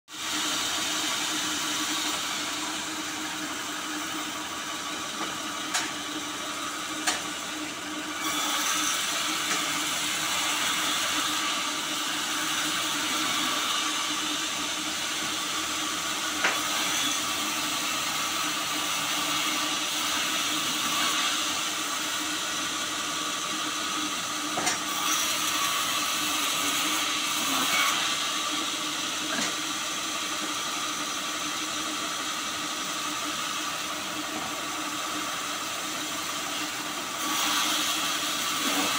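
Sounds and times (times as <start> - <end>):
band saw cutting wood: 0.2 - 32.1, 32.8 - 38.9.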